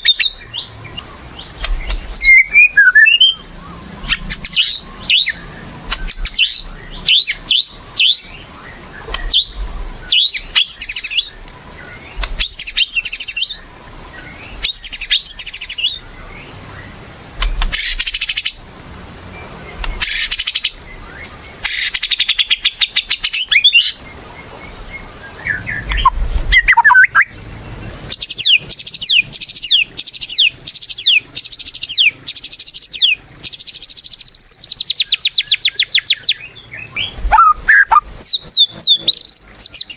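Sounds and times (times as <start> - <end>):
bird singing whistles and chatter: 0.0 - 18.6, 19.4 - 39.9.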